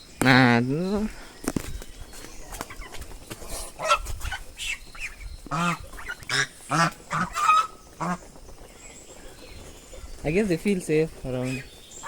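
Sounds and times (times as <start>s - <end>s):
ducks or geese calling: 2.1s - 12.0s.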